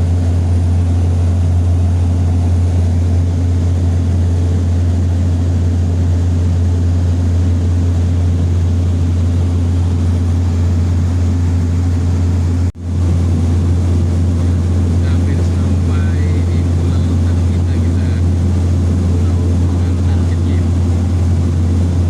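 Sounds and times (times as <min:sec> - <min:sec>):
propeller aircraft cabin drone: 0:00.0 - 0:22.0.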